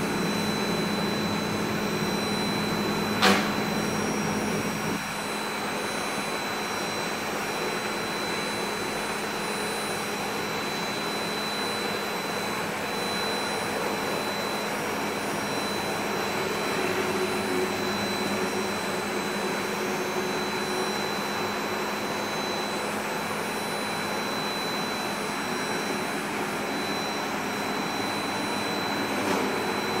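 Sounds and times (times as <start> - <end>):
router spindle high whine: 0.0 - 30.0.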